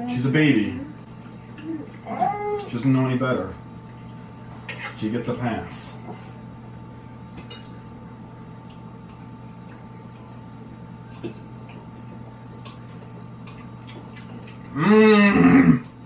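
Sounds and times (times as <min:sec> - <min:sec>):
quiet eating sounds: 0:00.0 - 0:16.0
steady low hum: 0:00.0 - 0:16.0.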